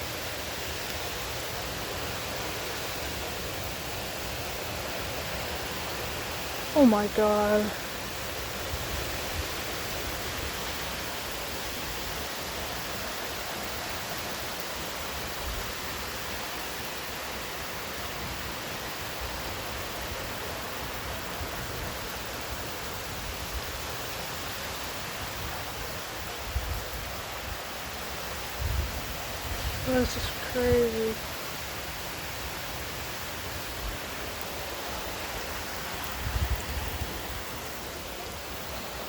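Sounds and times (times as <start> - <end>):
heavy rain hissing: 0.0 - 39.0.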